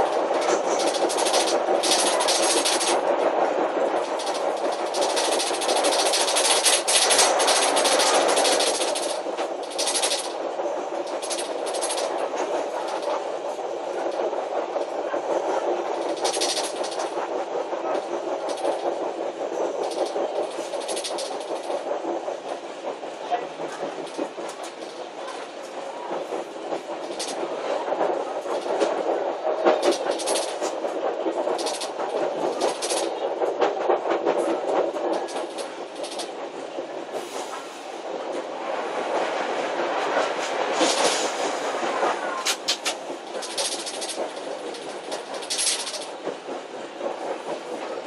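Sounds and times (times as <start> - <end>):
wheels clicking over track joints: 0.0 - 37.7, 39.0 - 48.0
train running noise in cab: 0.0 - 48.0.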